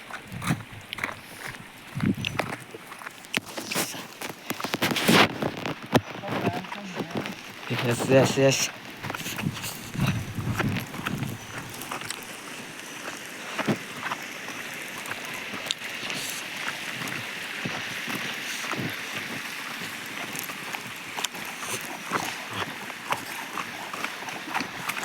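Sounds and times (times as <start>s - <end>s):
hiss of moving water: 0.0s - 5.4s, 7.0s - 25.0s
water splashing and sloshing: 0.0s - 25.0s.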